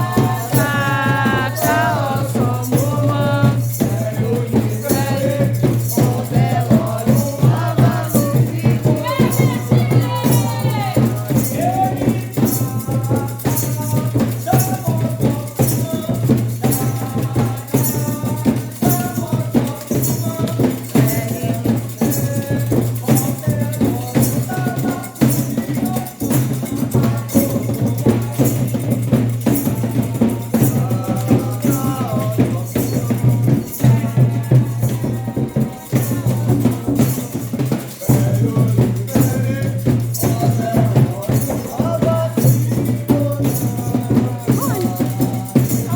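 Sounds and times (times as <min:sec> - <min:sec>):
drums: 0:00.0 - 0:45.9
rattle keeping a steady beat: 0:00.0 - 0:45.9
voices singing: 0:00.0 - 0:45.9.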